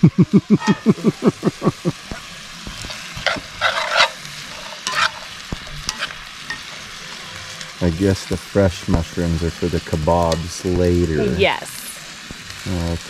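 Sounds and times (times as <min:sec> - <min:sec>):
food sizzling in a skillet: 0:00.1 - 0:13.0
scraping in a skillet: 0:00.5 - 0:11.2.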